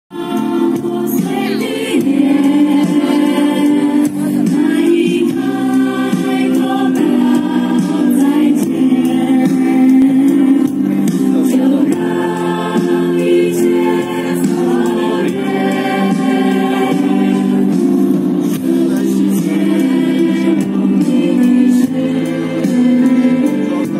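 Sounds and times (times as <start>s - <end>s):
youth choir singing: 0.1s - 23.9s.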